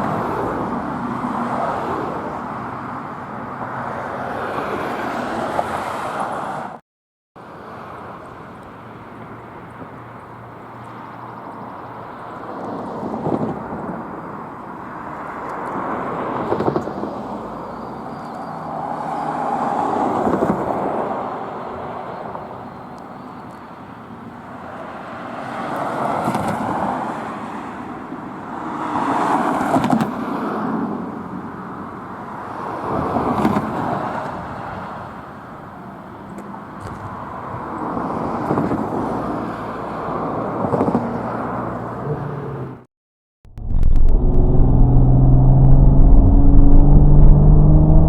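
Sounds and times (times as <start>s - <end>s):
cars passing by: 0.0s - 6.8s, 7.4s - 42.9s, 43.6s - 48.0s.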